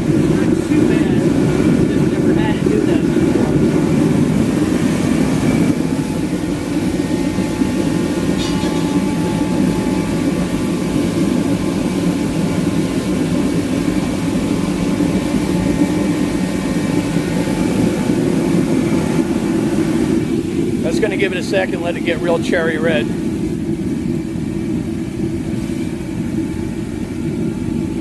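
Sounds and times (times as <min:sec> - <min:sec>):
heater fan and burner rushing: 0:00.0 - 0:28.0.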